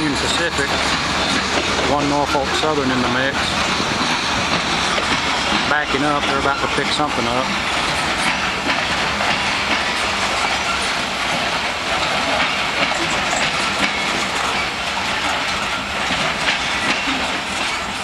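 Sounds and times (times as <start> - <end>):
freight cars rolling rattle: 0.0 - 18.0
wheels clicking over rail joints: 0.0 - 18.0.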